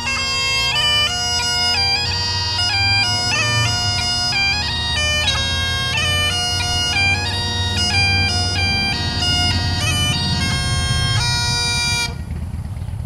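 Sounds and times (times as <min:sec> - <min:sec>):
bagpipes playing: 0:00.0 - 0:12.5.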